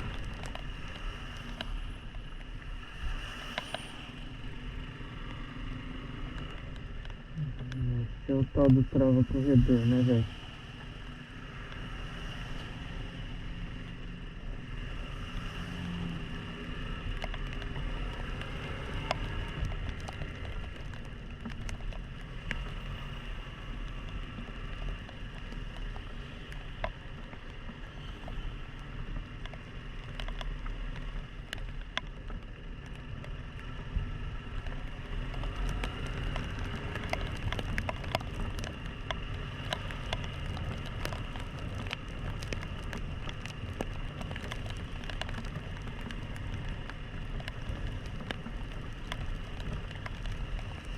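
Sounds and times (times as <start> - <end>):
rain patter: 0.0 - 50.9
raindrops ticking on camera: 0.0 - 50.9.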